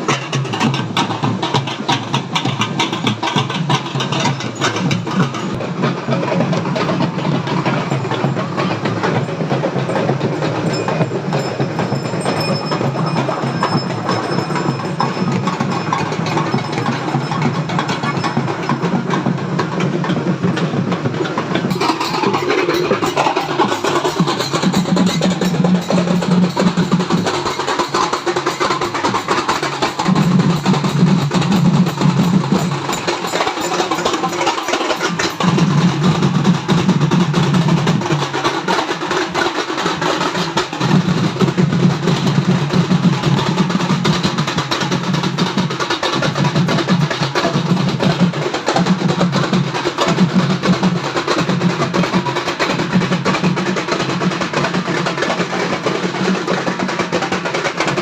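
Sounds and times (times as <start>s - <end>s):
deep drum line: 0.0s - 58.0s
loud drum-heavy music: 0.0s - 58.0s.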